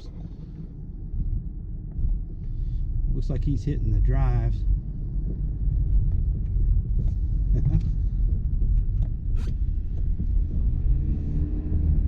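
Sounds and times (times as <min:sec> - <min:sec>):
car driving on slushy road: 0:00.0 - 0:12.0.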